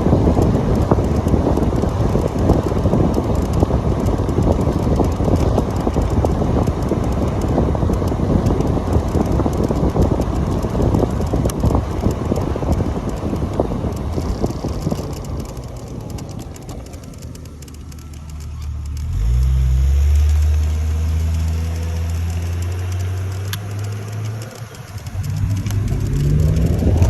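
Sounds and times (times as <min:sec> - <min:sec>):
wind buffeting microphone: 0:00.0 - 0:18.4, 0:20.7 - 0:27.0
road rumble: 0:00.0 - 0:27.0.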